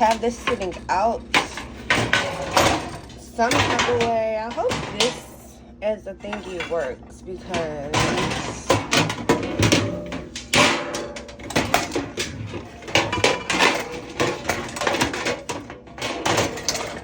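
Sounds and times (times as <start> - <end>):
kitchenware clattering on a counter: 0.0 - 5.5, 6.1 - 17.0.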